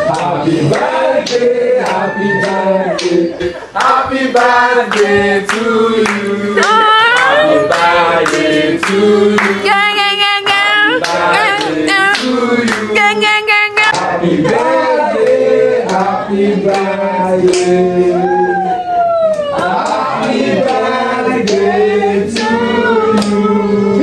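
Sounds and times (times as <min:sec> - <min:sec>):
hand clapping: 0:00.0 - 0:09.6, 0:10.4 - 0:13.0, 0:13.8 - 0:17.8, 0:19.2 - 0:21.6, 0:22.3 - 0:23.4
group singing a birthday song: 0:00.0 - 0:24.0.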